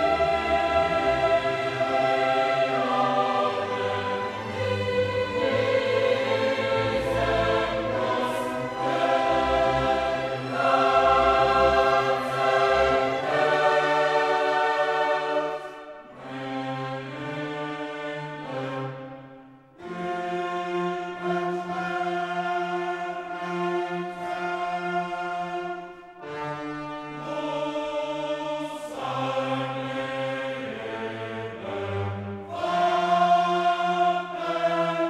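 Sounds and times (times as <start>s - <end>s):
choir singing sustained chords: 0.0s - 35.0s
orchestral accompaniment: 0.0s - 35.0s.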